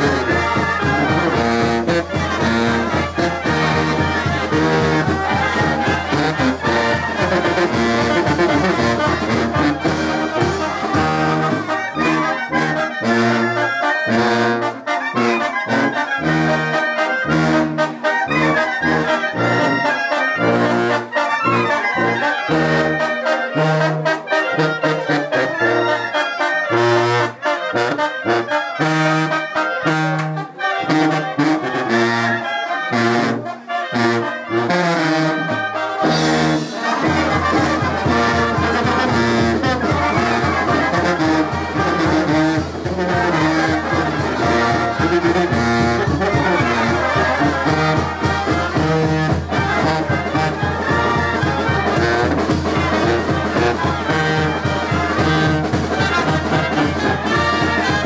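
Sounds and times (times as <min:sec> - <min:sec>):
drum beats: 0:00.0 - 0:26.1, 0:33.2 - 0:58.0
brass band playing dance music: 0:00.0 - 0:58.0.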